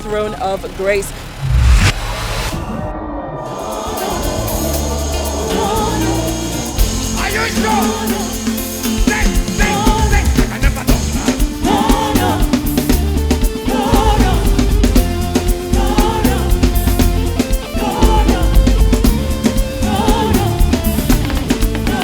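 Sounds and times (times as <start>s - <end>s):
pulsing bass line: 0.0s - 22.0s
person singing gospel: 3.5s - 22.0s
drum kit: 3.6s - 22.0s.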